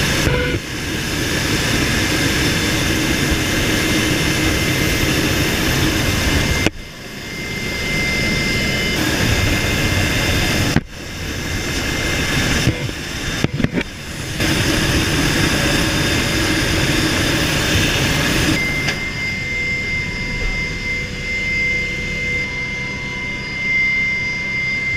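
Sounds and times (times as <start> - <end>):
helicopter turbine and rotor rush: 0.0 - 24.9
high engine whine: 0.0 - 24.9.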